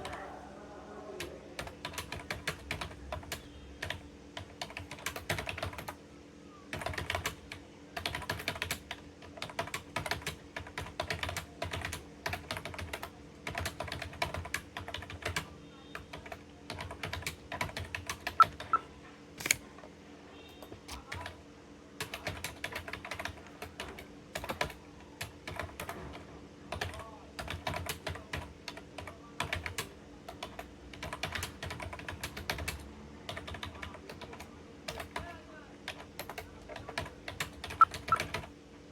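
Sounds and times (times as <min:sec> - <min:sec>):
faint steady hum: 0:00.0 - 0:38.9
fast typing on keyboard: 0:01.6 - 0:06.0, 0:06.7 - 0:18.8, 0:20.6 - 0:21.4, 0:22.0 - 0:38.6.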